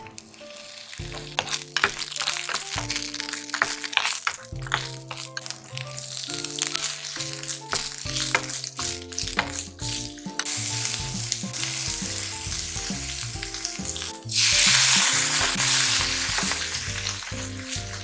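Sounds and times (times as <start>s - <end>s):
background music: 0.0s - 18.0s
food sizzling in a frying pan: 0.0s - 18.0s
wooden spatula stirring: 0.0s - 18.0s.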